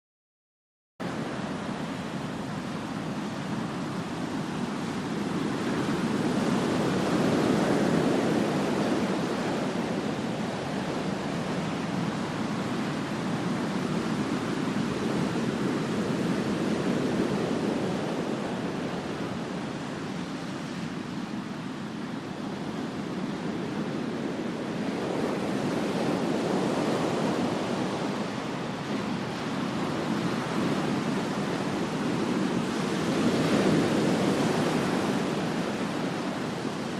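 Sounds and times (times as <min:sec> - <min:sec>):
waves breaking on beach: 0:01.0 - 0:36.9
wind on microphone: 0:01.0 - 0:36.9.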